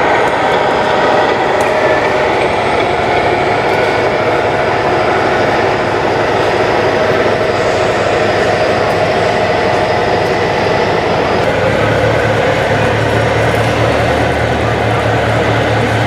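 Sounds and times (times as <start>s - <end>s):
diesel engine sound module: 0.0s - 16.0s.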